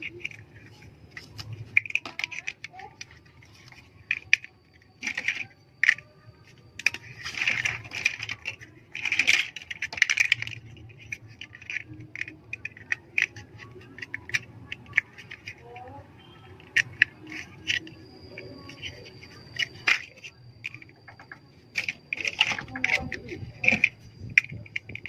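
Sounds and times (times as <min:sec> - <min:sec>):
plastic bricks clicking and rattling: 0:00.0 - 0:25.0.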